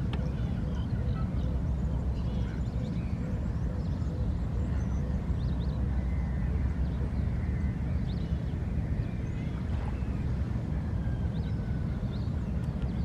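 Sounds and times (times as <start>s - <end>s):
faint bird chirps: 0.0s - 13.0s
steady low rumble: 0.0s - 13.0s.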